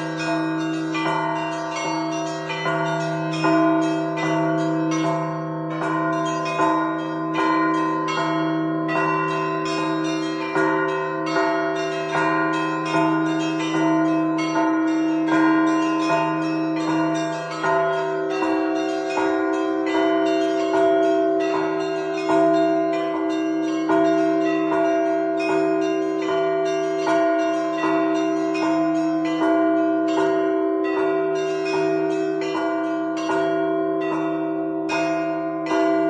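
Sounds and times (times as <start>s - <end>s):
deep church bell strokes: 0.0s - 36.0s
small church bells ringing rapidly: 0.0s - 36.0s.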